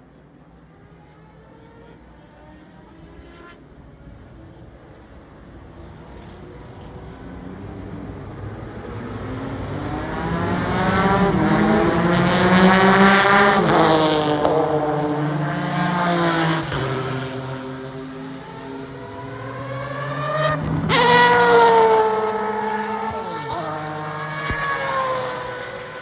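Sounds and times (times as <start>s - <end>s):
race car passing at high revs: 0.8s - 26.0s.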